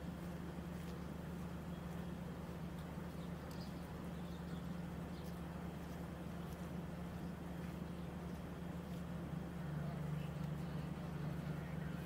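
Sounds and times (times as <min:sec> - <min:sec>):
ship engines humming: 0:00.0 - 0:12.0.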